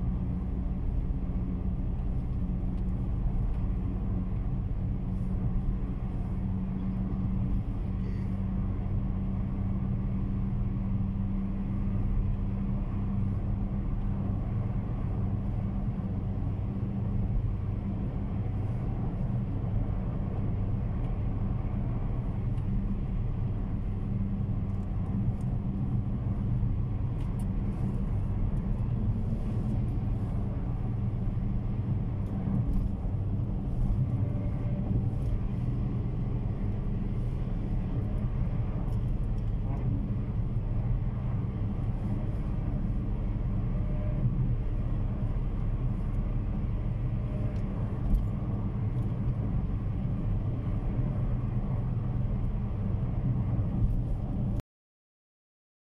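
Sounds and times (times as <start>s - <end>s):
car engine drone: 0.0s - 54.6s.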